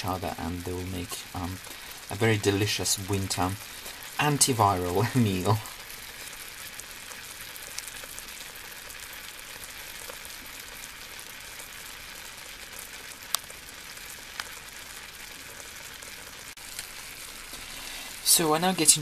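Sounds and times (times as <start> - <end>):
steak sizzling in a pan: 0.0 - 19.0.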